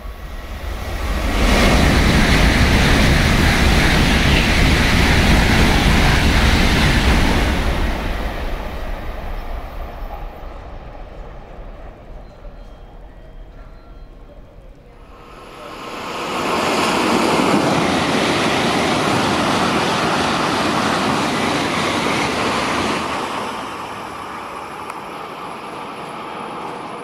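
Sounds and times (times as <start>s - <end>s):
high-speed train rushing past: 0.0s - 27.0s.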